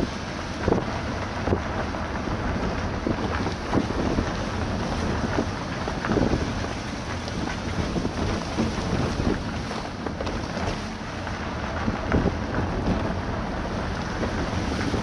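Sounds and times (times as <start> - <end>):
vehicle rumbling on dirt road: 0.0 - 15.0
wind buffeting microphone: 0.0 - 15.0
knocks and rattles over rocks: 0.6 - 15.0.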